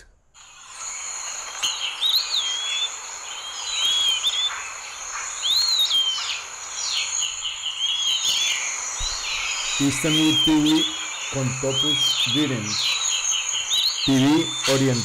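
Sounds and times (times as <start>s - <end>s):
bird whistled song: 0.0s - 15.0s
steady high-pitched tone: 0.4s - 15.0s.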